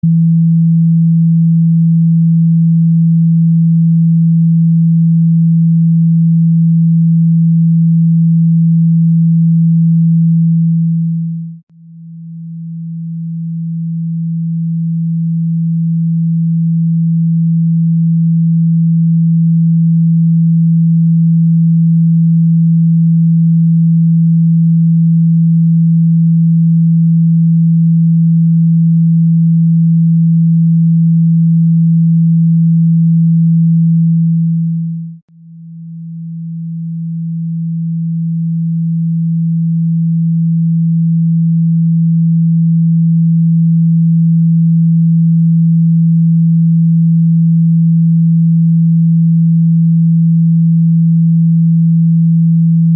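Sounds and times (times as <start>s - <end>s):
low steady sine tone: 0.0s - 52.9s.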